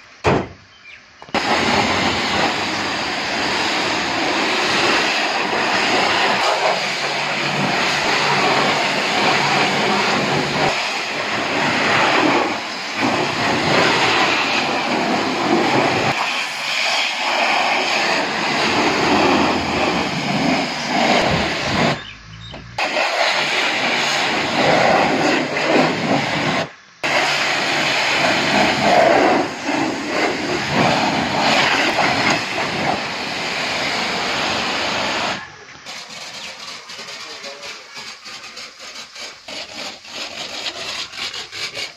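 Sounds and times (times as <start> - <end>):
pressure washer spray hissing: 1.2 - 41.9.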